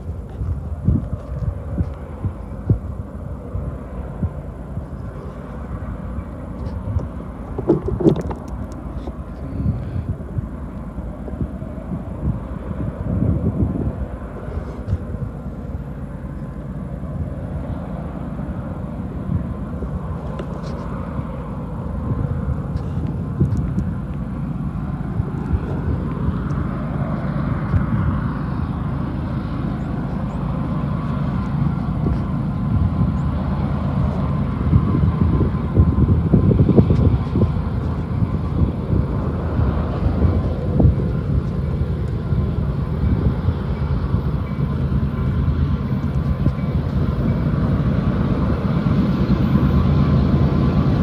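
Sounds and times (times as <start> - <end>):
distant locomotive engine drone: 0.0 - 51.0
wind buffeting microphone: 0.0 - 51.0.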